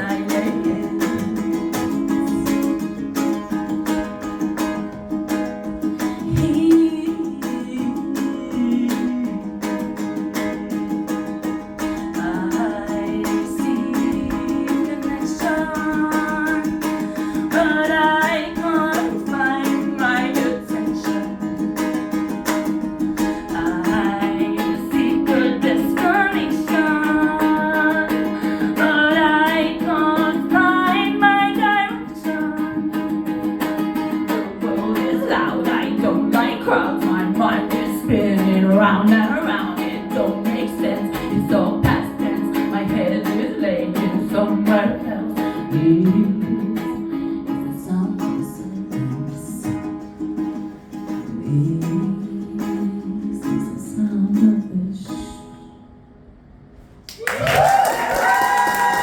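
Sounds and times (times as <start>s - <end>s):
woman singing: 0.0s - 4.8s, 5.4s - 50.1s, 51.2s - 55.8s
ukulele strumming: 0.0s - 57.0s.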